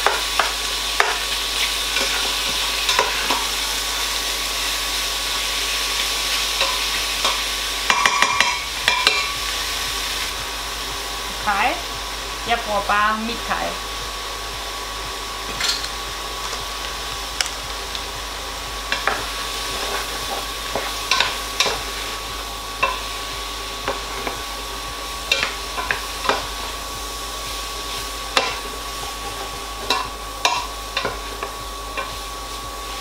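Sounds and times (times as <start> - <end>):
food sizzling in a pot: 0.0 - 33.0.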